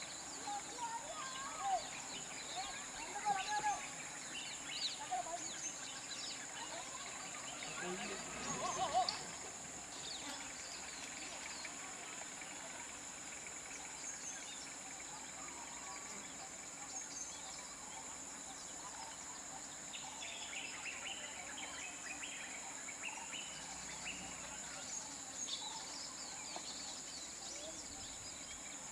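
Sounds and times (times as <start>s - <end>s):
short insect chirps: 0.0s - 28.9s.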